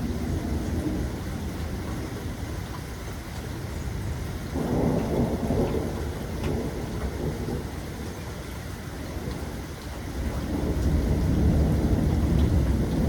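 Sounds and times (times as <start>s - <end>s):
rolling thunder rumble: 0.0s - 2.4s, 4.0s - 8.4s, 9.0s - 13.0s
steady rain: 0.0s - 13.0s.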